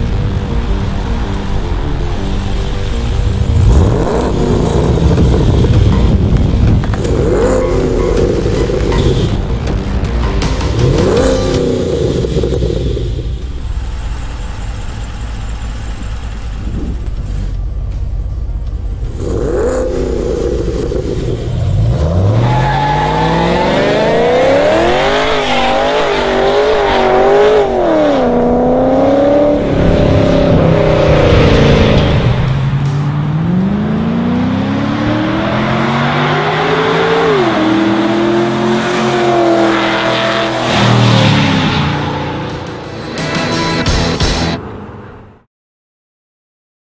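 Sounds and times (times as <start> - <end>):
car engine revving: 0.0 - 44.7.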